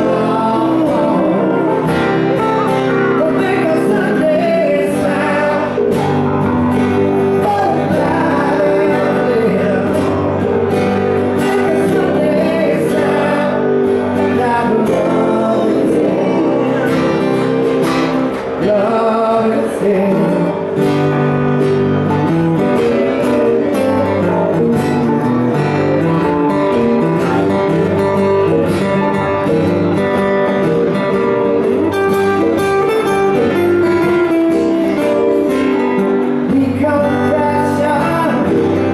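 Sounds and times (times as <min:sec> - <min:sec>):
man singing: 0:00.0 - 0:21.3, 0:22.6 - 0:26.3, 0:32.3 - 0:38.9
acoustic guitars strummed: 0:00.0 - 0:38.9.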